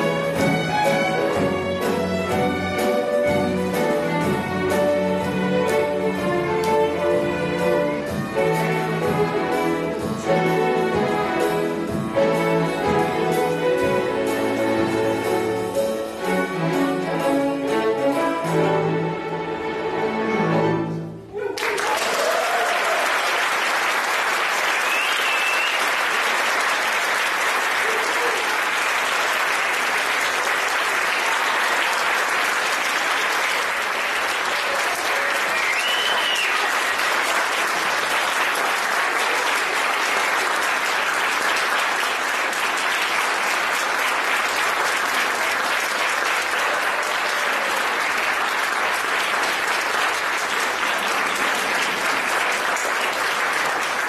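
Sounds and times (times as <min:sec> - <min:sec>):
audience applauding: 0:00.0 - 0:11.8, 0:21.4 - 0:54.0.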